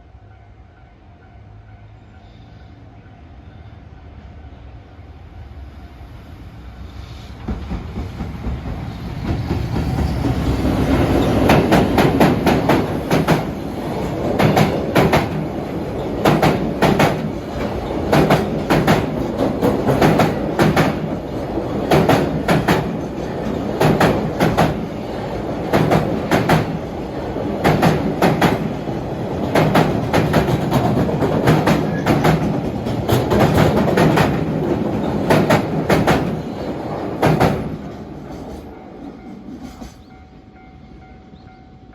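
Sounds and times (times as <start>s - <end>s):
train rumbling past: 0.0s - 41.9s.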